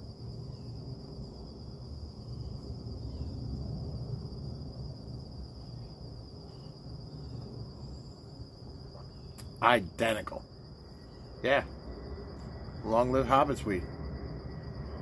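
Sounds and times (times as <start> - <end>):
crickets trilling: 0.0 - 15.0
low background rumble: 0.0 - 15.0.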